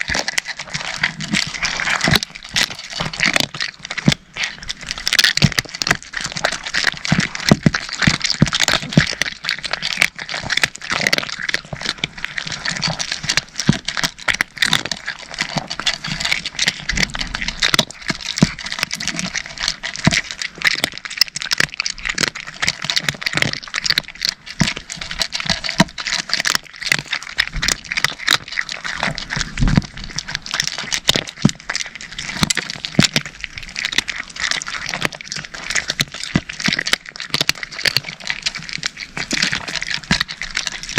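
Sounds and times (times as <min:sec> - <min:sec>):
cats crunching dry kibble: 0:00.0 - 0:40.9.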